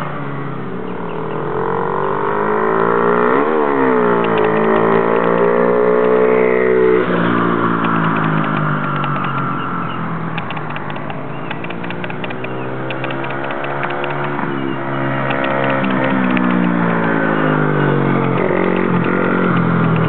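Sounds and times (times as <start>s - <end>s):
dirt bike engine revving: 0.9s - 20.0s.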